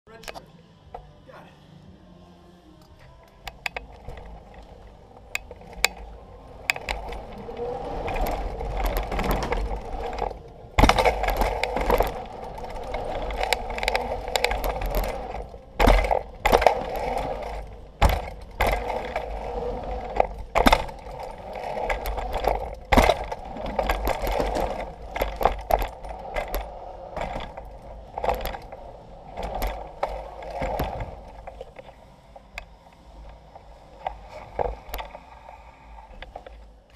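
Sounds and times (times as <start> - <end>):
bike knocking and clattering: 3.0 - 35.3
bike tyres rolling: 3.0 - 36.9.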